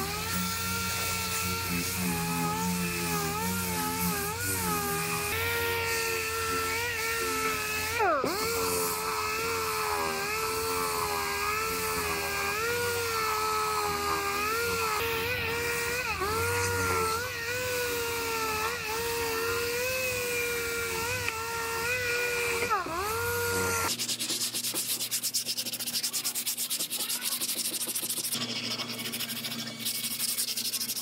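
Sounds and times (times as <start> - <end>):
orbital sander on steel: 0.0 - 31.0.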